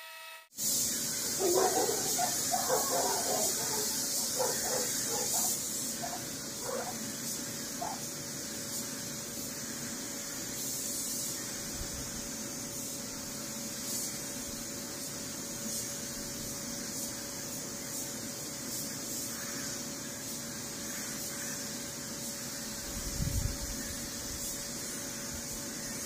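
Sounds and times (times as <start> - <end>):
spray gun hissing: 0.6 - 26.0.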